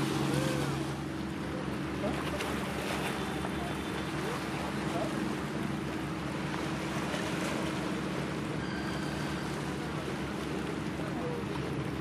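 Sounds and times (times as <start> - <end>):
ship engine droning: 0.0 - 12.0
water: 0.0 - 12.0
wind: 0.0 - 12.0.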